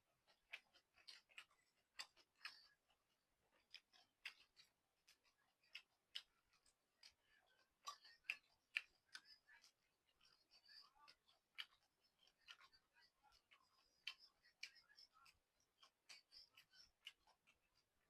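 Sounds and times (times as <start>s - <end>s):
mouth smacks eating: 0.3s - 2.8s, 3.6s - 17.9s.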